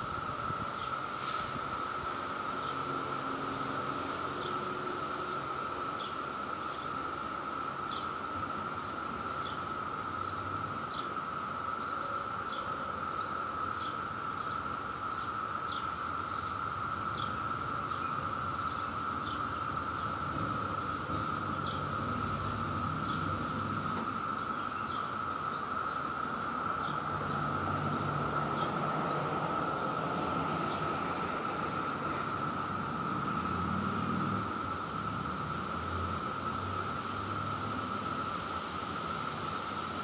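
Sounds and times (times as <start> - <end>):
cicadas droning: 0.0 - 40.0.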